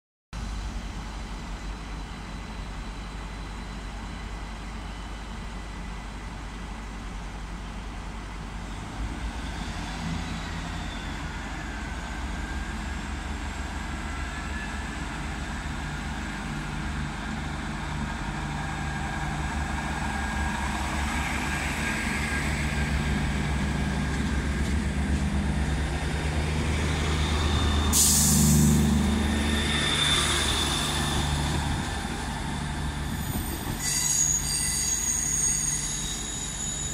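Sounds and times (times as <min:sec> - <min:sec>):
train diesel engines droning: 0:00.4 - 0:36.9.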